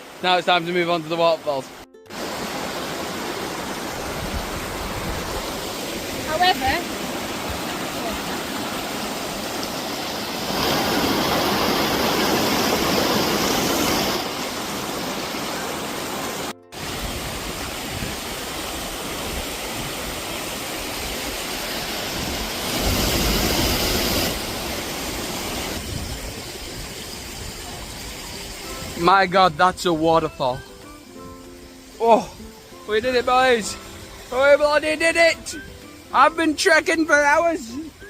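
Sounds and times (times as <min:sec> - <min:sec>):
rushing water roar: 0:00.0 - 0:38.0.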